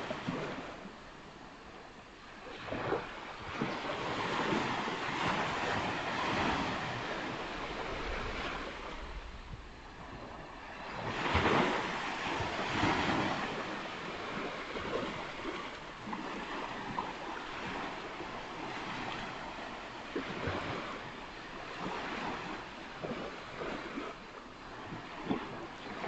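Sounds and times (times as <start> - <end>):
waves breaking on beach: 0.0 - 26.0.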